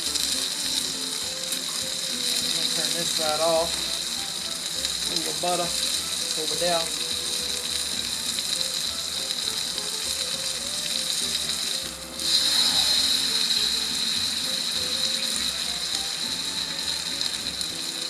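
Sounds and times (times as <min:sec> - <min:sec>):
steak sizzling on griddle: 0:00.0 - 0:18.0.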